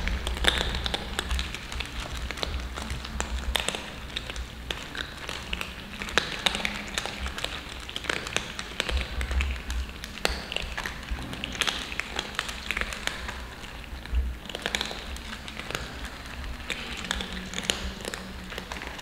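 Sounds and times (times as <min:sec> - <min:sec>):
cats crunching dry kibble: 0:00.0 - 0:19.0.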